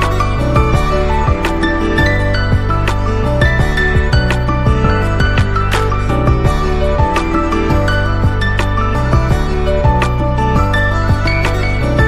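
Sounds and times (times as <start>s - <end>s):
gentle instrumental music with beat: 0.0s - 12.0s.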